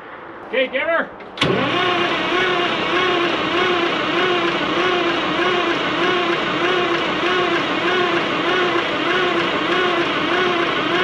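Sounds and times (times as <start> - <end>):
starter motor cranking diesel engine: 1.4 - 11.0.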